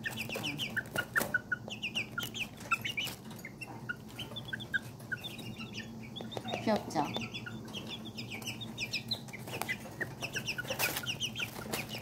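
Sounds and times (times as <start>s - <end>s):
chicks peeping: 0.0s - 12.0s
pecking at feed: 0.0s - 12.0s.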